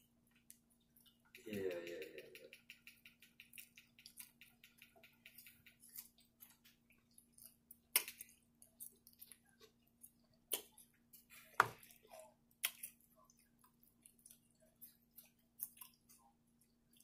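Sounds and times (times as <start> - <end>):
chewing and lip smacking: 2.4 - 17.0.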